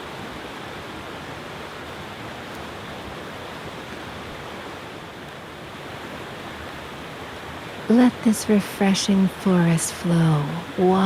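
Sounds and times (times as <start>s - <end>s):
stream rushing over stones: 0.0s - 11.0s.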